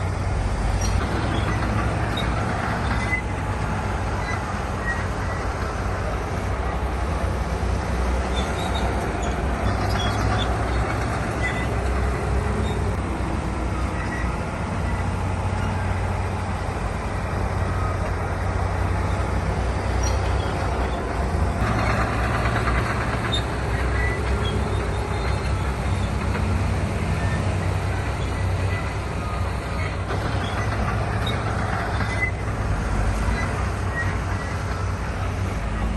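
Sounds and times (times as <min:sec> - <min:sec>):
heavy diesel machinery running: 0:00.0 - 0:35.9.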